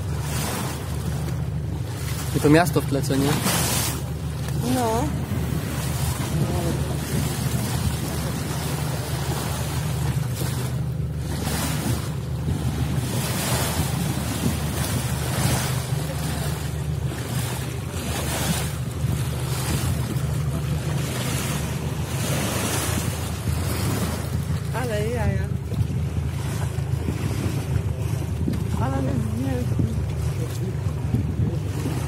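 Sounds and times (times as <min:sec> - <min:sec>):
boat engine idling: 0:00.0 - 0:32.0
sea washing around hull: 0:00.0 - 0:32.0
wind buffeting microphone: 0:00.0 - 0:32.0.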